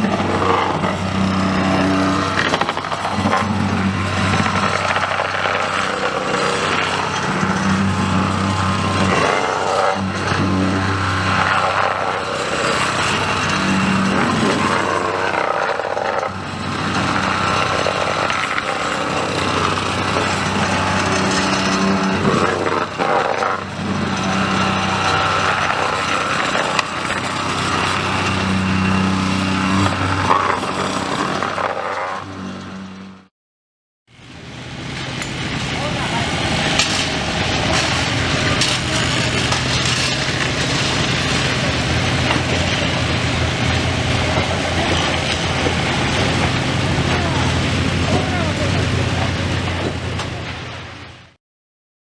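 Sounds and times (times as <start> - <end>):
machinery engine running: 0.0 - 33.3, 34.1 - 51.4.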